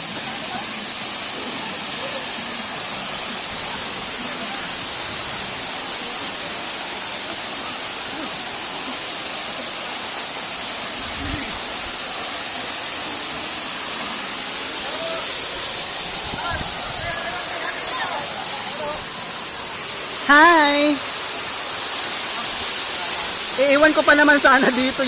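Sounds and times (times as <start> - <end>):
waterfall rushing over rocks: 0.0 - 25.0.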